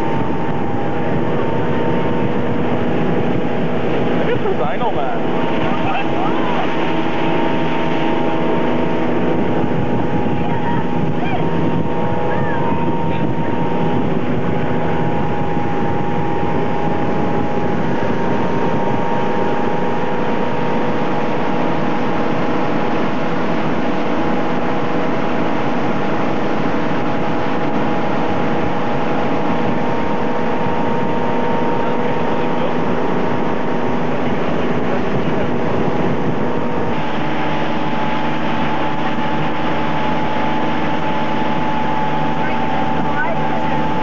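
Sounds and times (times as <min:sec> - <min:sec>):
motorboat engine humming: 0:00.0 - 0:44.0
rush of wind and water: 0:00.0 - 0:44.0.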